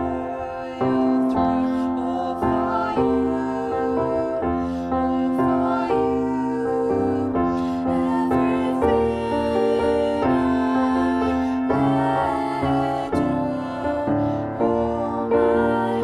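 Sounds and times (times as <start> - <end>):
piano playing slow chords: 0.0 - 16.0
women singing: 0.0 - 16.0.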